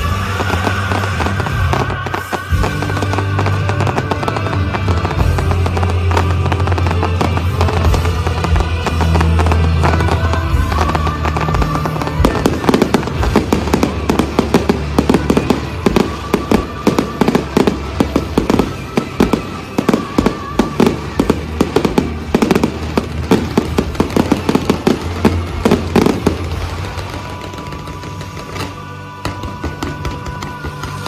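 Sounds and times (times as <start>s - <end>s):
fireworks bangs and crackles: 0.0s - 31.0s
music playing: 0.0s - 31.0s.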